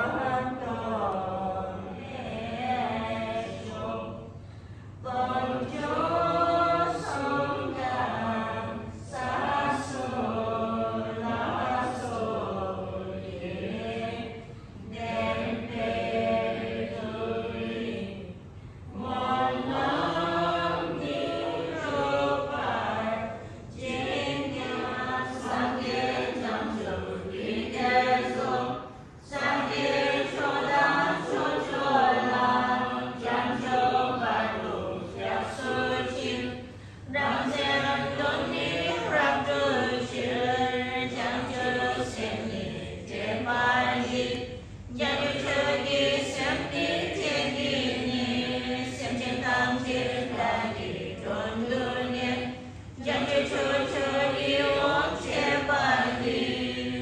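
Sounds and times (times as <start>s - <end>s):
group chanting prayers in unison: 0.0s - 57.0s.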